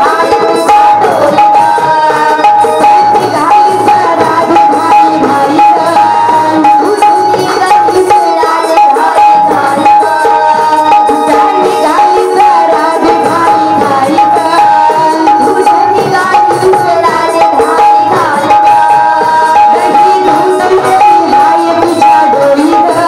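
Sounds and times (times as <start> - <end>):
girl singing into microphone: 0.0 - 23.0.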